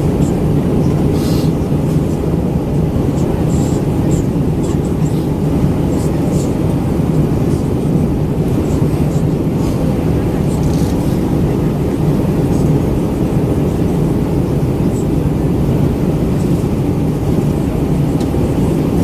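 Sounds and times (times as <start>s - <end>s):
jet engine cabin roar: 0.0s - 19.0s.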